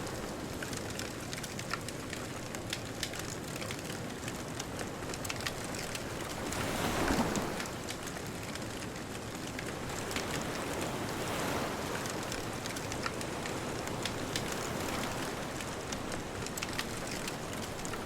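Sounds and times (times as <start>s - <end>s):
bonfire crackling: 0.0s - 6.8s, 7.5s - 18.0s.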